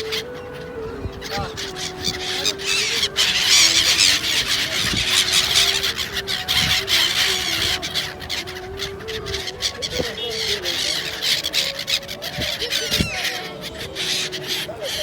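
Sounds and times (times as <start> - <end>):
seagulls calling: 0.0 - 15.0.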